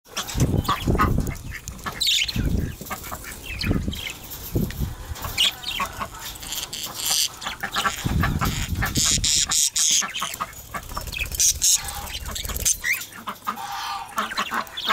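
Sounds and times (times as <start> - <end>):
budgerigars chirping: 0.6 - 4.2, 5.3 - 14.9.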